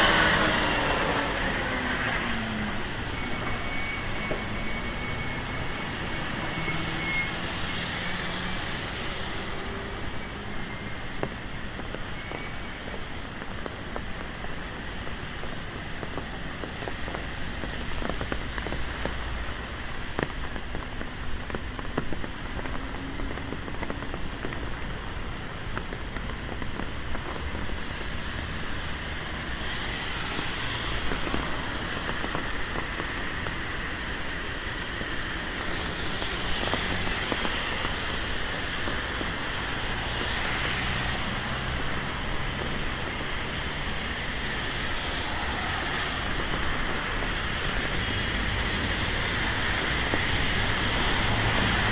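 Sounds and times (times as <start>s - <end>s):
rain on a street: 0.0s - 51.9s
sharp raindrop ticks: 0.0s - 51.9s
traffic hiss on wet road: 0.0s - 51.9s.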